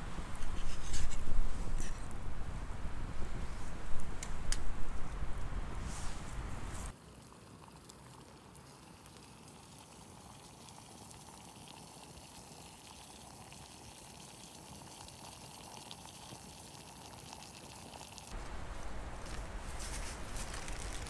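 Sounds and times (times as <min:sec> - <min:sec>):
faint water hiss: 0:00.0 - 0:21.0.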